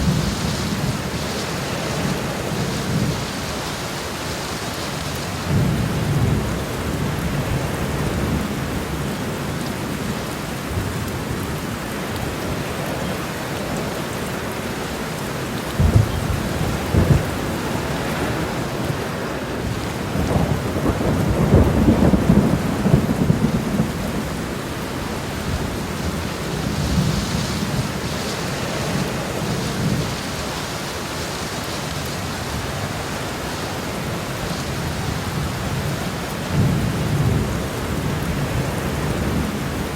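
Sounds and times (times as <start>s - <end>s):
heavy rain on road: 0.0s - 39.9s.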